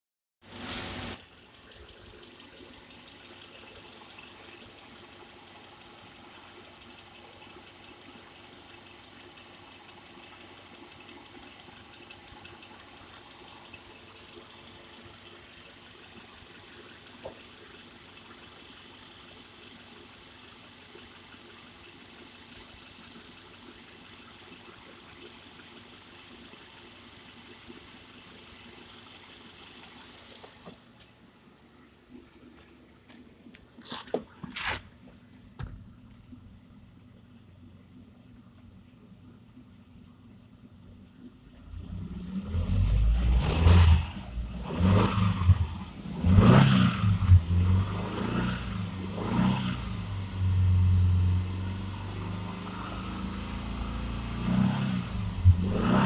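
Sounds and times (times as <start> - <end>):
car engine starting and idling: 0.4 - 56.0.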